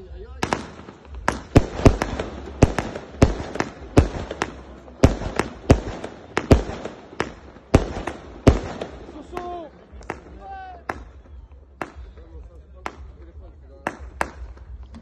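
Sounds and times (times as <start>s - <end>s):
firework crackling: 0.0s - 13.2s
firework bangs: 0.0s - 14.9s.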